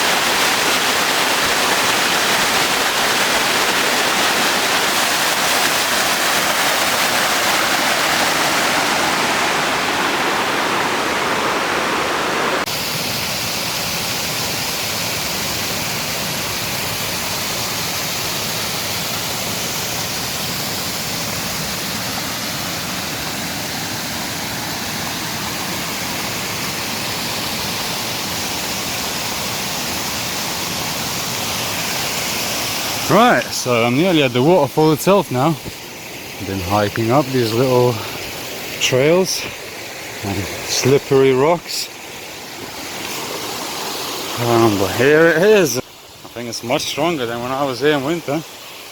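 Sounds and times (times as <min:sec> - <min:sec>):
stream and waterfall rushing: 0:00.0 - 0:48.9.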